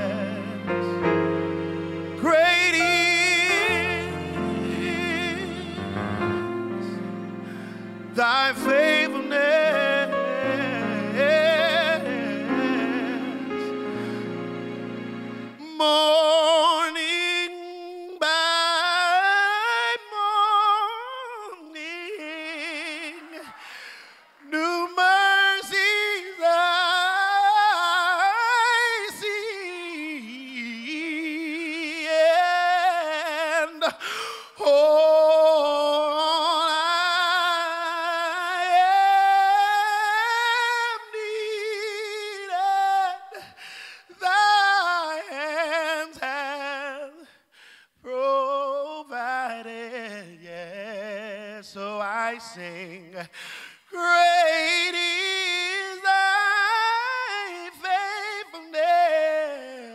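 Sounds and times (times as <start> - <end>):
man singing a cappella: 0.0 - 1.1, 2.2 - 7.0, 8.1 - 13.8, 15.6 - 59.9.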